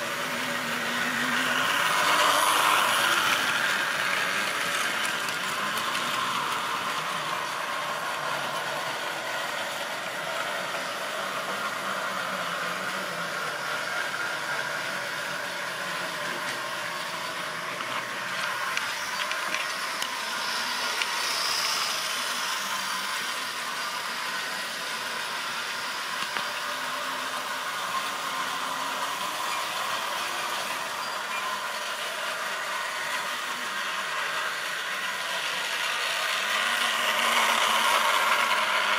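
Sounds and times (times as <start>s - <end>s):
model train wheels on rails: 0.0s - 38.9s.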